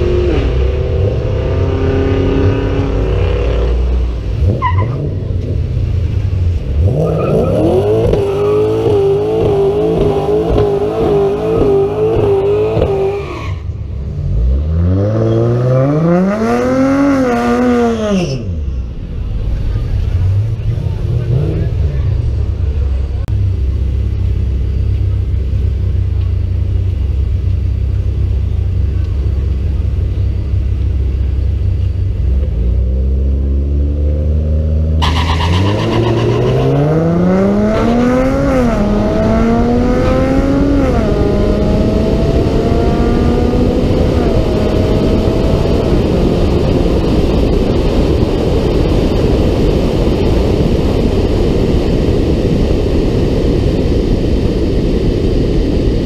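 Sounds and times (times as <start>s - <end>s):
car engine idling and revving: 0.0s - 56.0s
wind and road noise: 0.0s - 56.0s.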